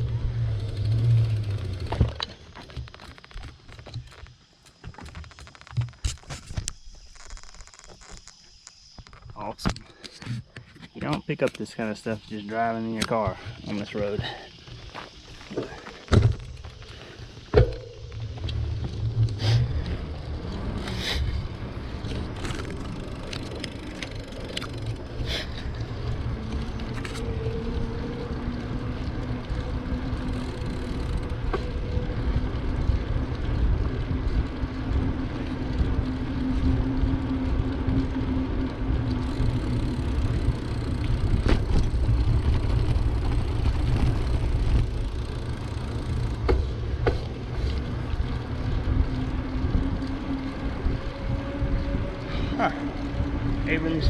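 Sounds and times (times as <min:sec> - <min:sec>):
bicycle clicks and rattles: 0:00.0 - 0:54.0.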